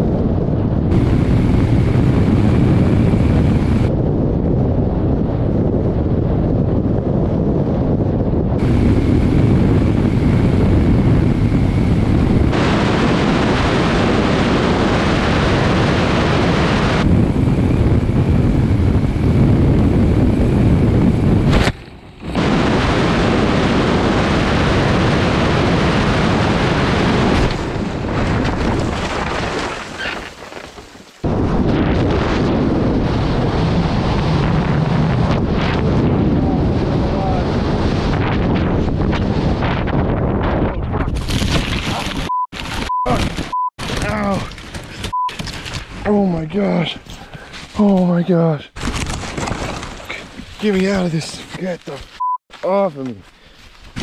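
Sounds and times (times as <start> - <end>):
wind buffeting microphone: 0.0 - 47.8.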